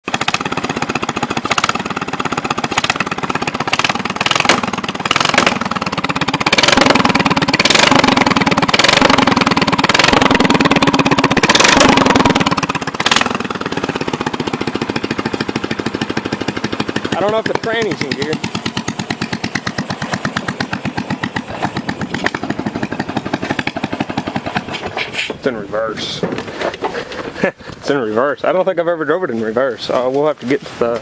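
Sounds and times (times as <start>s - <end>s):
lawn mower engine revving: 0.0s - 27.6s.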